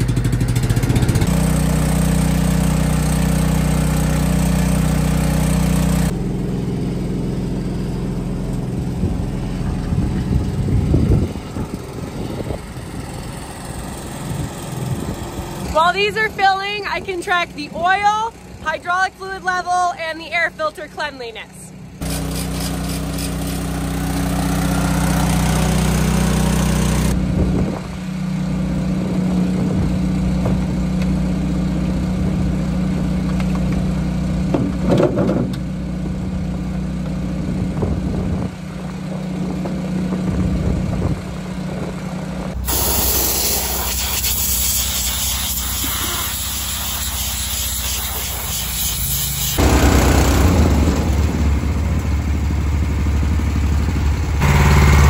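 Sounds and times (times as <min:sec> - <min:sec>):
small gas engine running: 0:00.0 - 0:19.6, 0:21.7 - 0:55.0.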